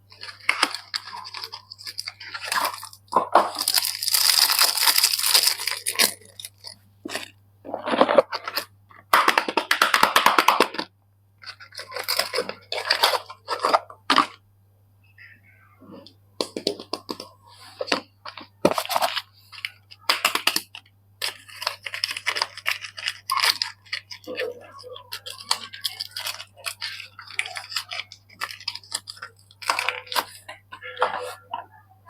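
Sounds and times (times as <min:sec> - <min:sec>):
crinkling wrapper: 0:00.1 - 0:14.4, 0:17.8 - 0:31.6.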